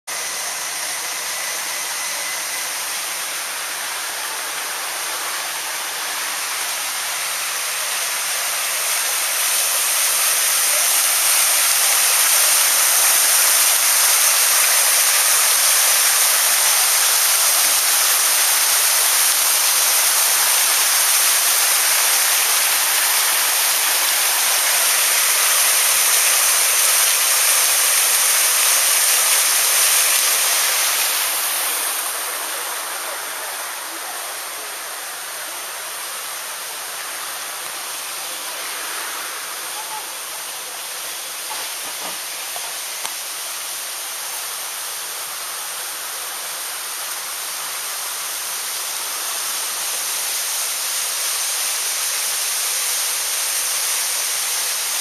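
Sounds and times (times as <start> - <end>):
fountain water splashing: 0.1 - 55.0.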